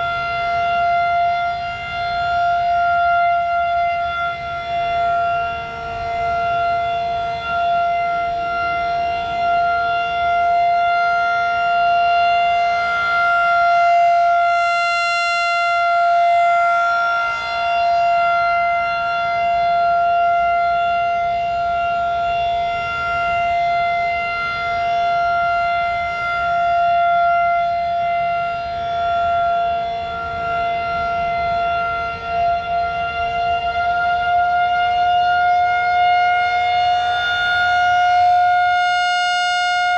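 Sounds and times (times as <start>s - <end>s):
rotating tornado siren: 0.0s - 39.9s.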